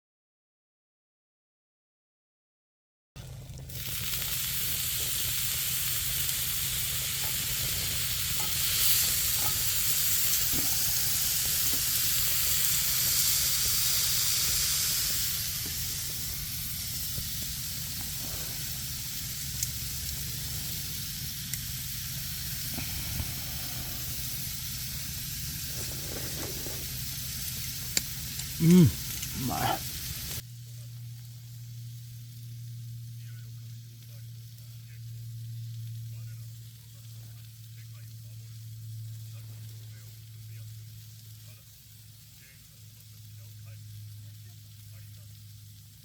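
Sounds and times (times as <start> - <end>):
small pops of frying: 3.2 - 46.0
steak sizzling: 3.2 - 46.0.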